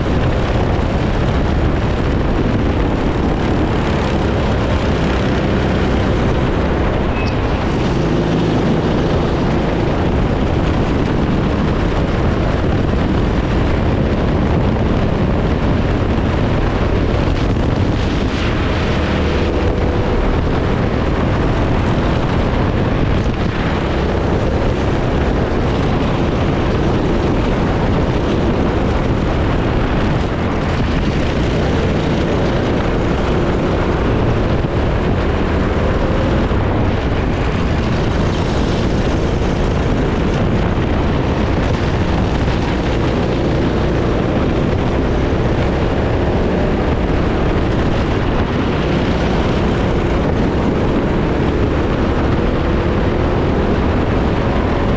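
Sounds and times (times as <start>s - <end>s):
kart engine running hard: 0.0s - 54.9s
wind and road noise: 0.0s - 54.9s.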